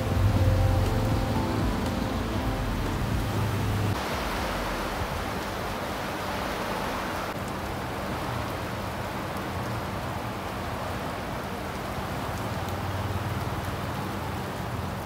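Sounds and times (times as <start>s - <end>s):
heavy rain on street and roof: 0.0s - 15.0s.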